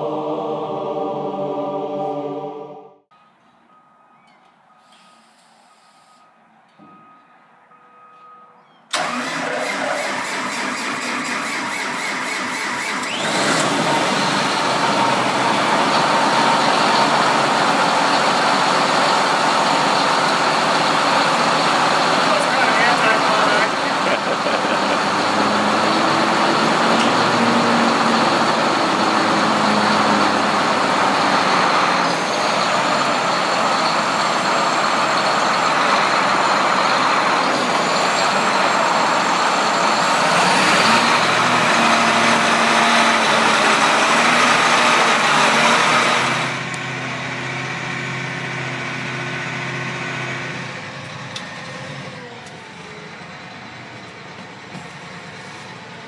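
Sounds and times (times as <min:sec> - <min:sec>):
tractor diesel engine running: 0:08.9 - 0:56.0.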